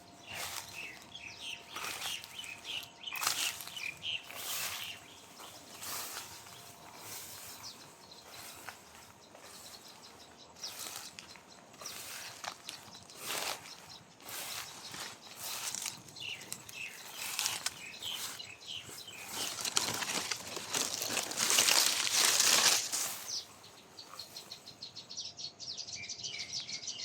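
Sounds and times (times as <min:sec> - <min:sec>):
footsteps on garden path: 0:00.0 - 0:25.0
birds chirping: 0:00.0 - 0:27.0
faint evening background: 0:00.0 - 0:27.0.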